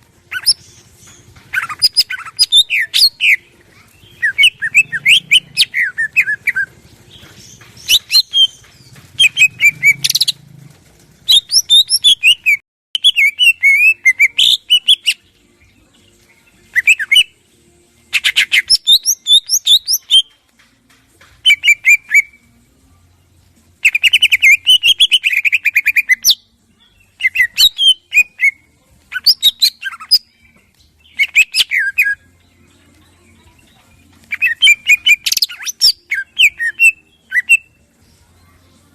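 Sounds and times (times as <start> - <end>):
bird singing chirps and trills: 0.0 - 10.4, 11.2 - 20.5, 21.2 - 22.6, 23.2 - 38.9.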